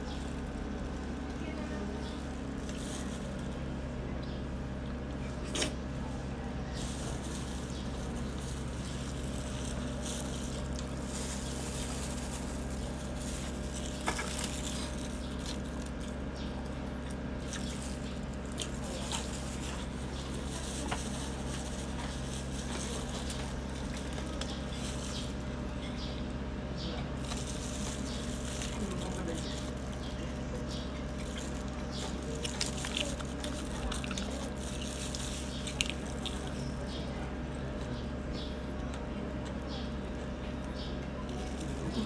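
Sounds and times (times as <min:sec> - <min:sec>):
low background hum: 0:00.0 - 0:42.0.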